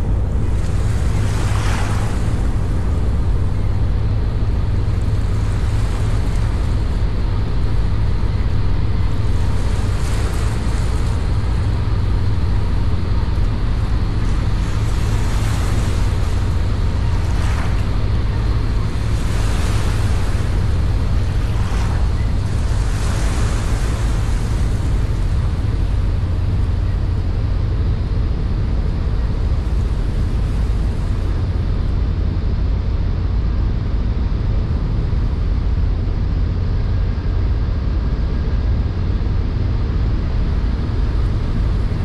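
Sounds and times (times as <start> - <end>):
rushing water: 0.0 - 42.0
small boat engine rumble: 0.0 - 42.0
wind on microphone: 0.0 - 42.0.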